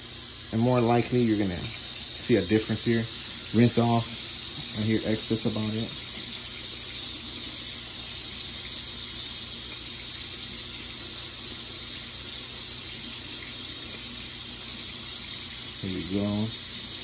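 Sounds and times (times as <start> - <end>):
faucet running into sink: 0.0 - 17.0.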